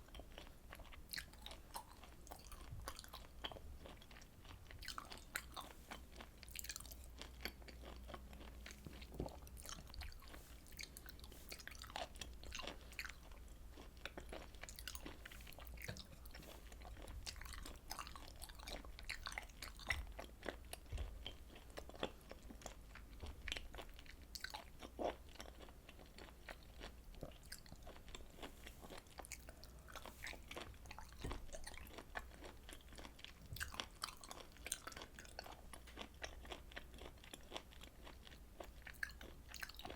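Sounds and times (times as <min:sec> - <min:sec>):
chewing with wet crunches: 0:00.0 - 0:39.9
faint low hum: 0:00.0 - 0:39.9.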